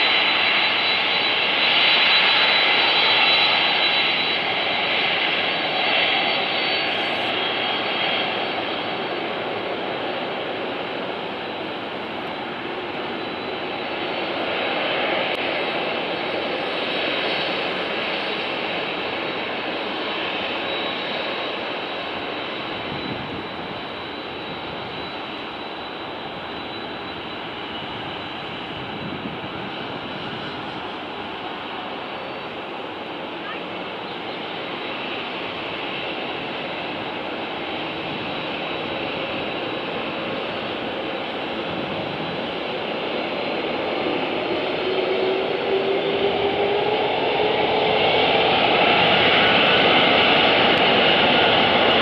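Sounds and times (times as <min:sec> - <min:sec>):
jet engines rumbling: 0:00.0 - 0:52.0.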